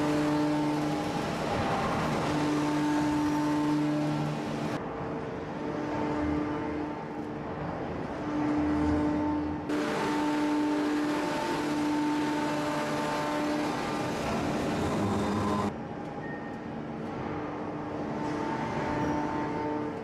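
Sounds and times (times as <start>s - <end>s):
hydraulic press machinery hum: 0.0s - 20.0s.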